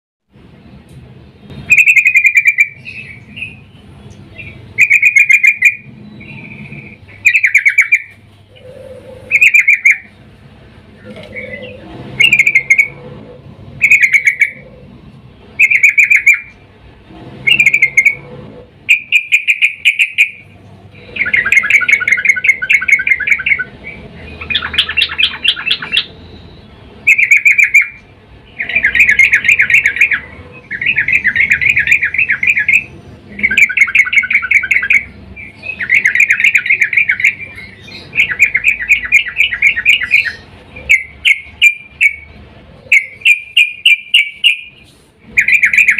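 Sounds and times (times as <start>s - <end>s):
bird chattering calls: 1.5s - 16.7s, 17.4s - 45.9s.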